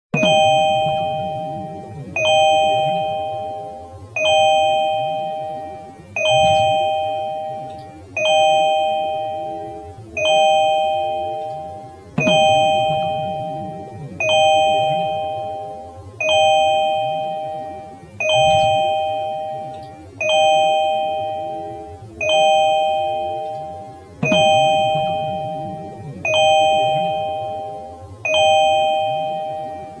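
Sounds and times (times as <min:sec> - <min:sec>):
car door warning chime: 0:00.2 - 0:30.0.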